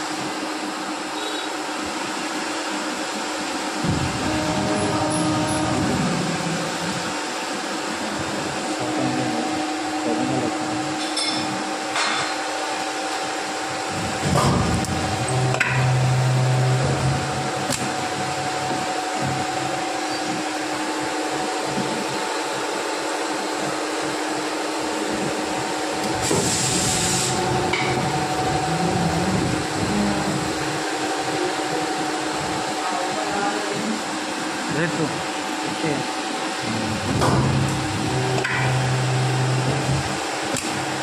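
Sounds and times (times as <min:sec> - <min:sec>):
moulding machine humming: 0:00.0 - 0:41.0.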